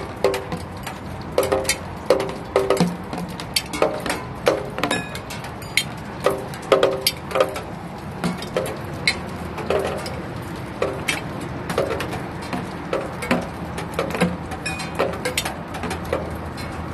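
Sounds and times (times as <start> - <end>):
raindrops tapping hard surfaces: 0.0 - 16.9
steady hiss of rain: 0.0 - 16.9.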